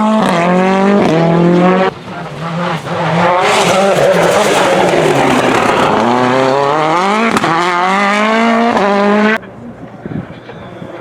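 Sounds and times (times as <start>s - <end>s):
rally car engine accelerating: 0.0s - 9.4s.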